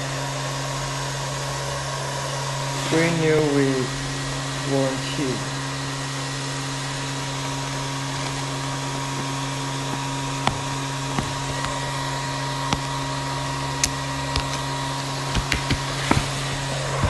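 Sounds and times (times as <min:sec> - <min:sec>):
machine drone with low hum: 0:00.0 - 0:17.0.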